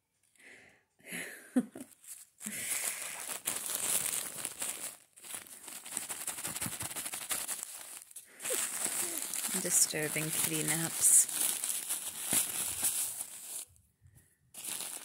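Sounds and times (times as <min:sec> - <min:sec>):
tissue paper crinkling: 0:01.8 - 0:13.8, 0:14.6 - 0:15.0.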